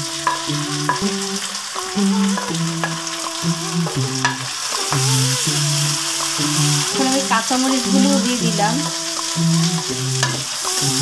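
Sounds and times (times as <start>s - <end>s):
background music with held notes: 0.0s - 11.0s
onions sizzling in oil: 0.0s - 11.0s.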